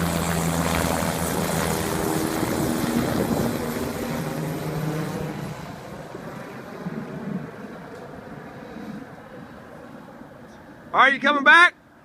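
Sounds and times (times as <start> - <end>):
engine drone with low hum: 0.0 - 11.0.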